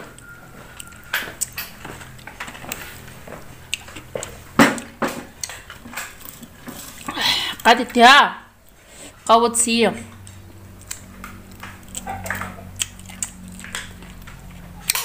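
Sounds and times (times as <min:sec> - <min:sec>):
person chewing: 0:00.0 - 0:07.7, 0:10.1 - 0:15.0.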